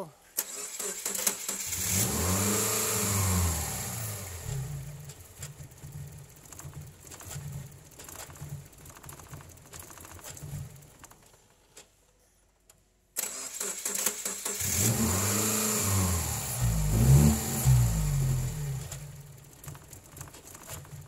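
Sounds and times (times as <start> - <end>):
car engine cranking and starting: 0.3 - 21.0
car engine revving: 0.4 - 11.0, 13.2 - 21.0.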